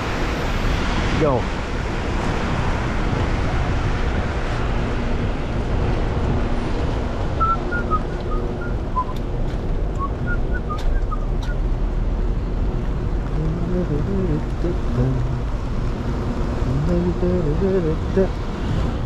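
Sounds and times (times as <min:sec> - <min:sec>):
traffic on wet roads: 0:00.0 - 0:19.0.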